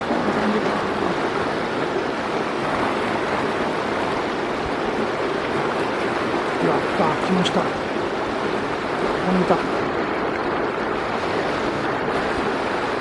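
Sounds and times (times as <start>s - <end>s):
water rushing in a channel: 0.0s - 13.0s.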